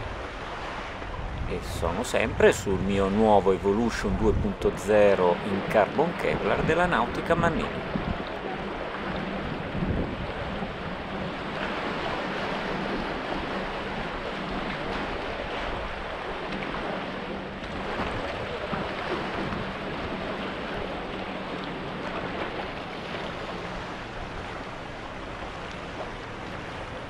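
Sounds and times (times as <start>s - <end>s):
water splashing around kayak: 0.0s - 27.0s
wind on microphone: 0.0s - 27.0s.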